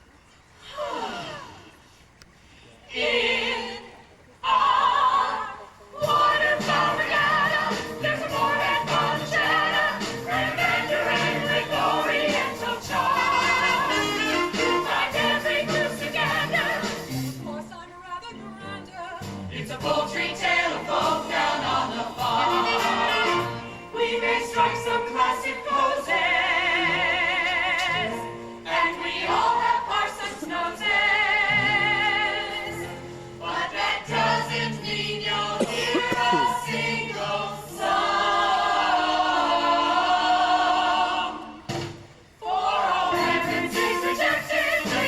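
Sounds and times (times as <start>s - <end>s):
ensemble singing: 2.9s - 45.0s.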